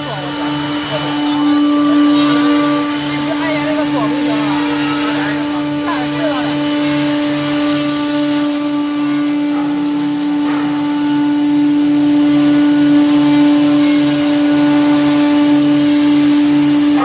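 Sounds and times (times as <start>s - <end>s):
sawing machine motor hum: 0.0s - 17.0s.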